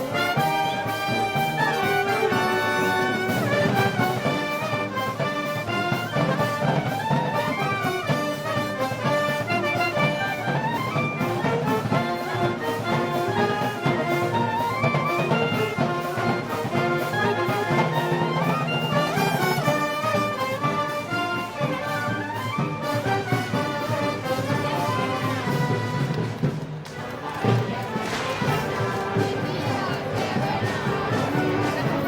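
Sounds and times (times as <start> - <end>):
brass melody: 0.0 - 32.0
steady percussion beat: 0.0 - 32.0.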